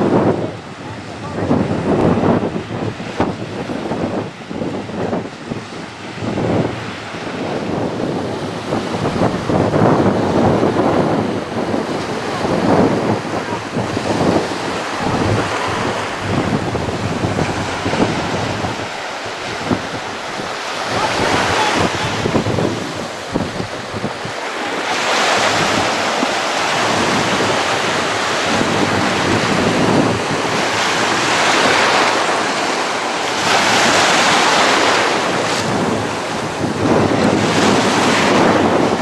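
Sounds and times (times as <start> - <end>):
surf breaking on shore: 0.0 - 39.0
wind buffeting microphone: 0.0 - 39.0.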